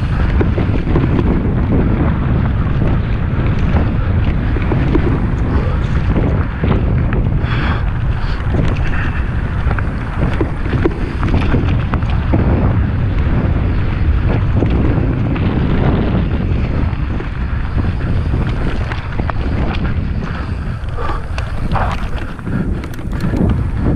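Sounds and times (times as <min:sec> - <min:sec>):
bike clicks and rattles: 0:00.0 - 0:23.9
wind buffeting microphone: 0:00.0 - 0:23.9.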